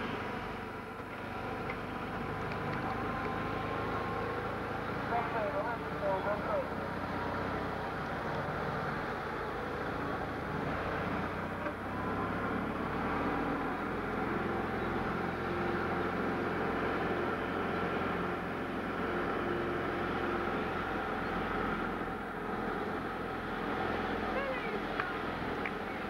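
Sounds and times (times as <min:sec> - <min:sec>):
car engine running steadily: 0:00.0 - 0:26.0.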